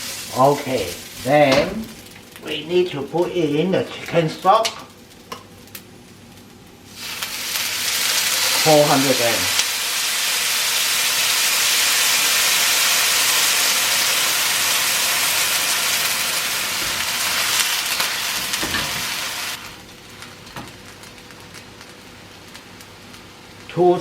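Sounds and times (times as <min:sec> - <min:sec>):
stock sizzling in a hot wok: 0:00.0 - 0:24.0.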